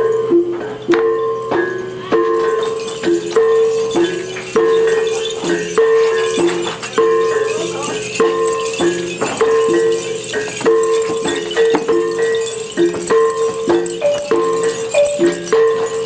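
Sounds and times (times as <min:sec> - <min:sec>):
gongs ringing: 0:00.0 - 0:16.0
light rattling: 0:02.3 - 0:16.0.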